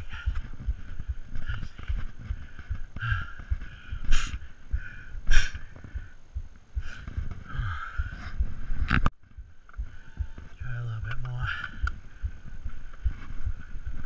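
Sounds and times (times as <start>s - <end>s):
heavy labored breathing: 0.0s - 9.1s, 9.7s - 10.6s, 11.4s - 14.0s.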